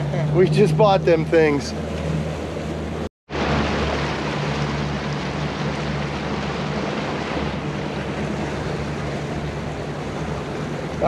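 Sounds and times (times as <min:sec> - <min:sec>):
motorboat engine drone: 0:00.0 - 0:11.0
rush of wind and water: 0:00.0 - 0:11.0.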